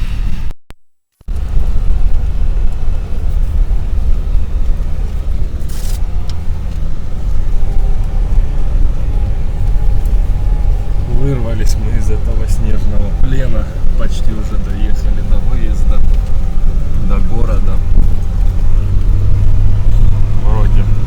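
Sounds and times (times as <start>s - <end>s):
vehicle engine and road noise: 0.0s - 0.5s, 1.2s - 21.0s.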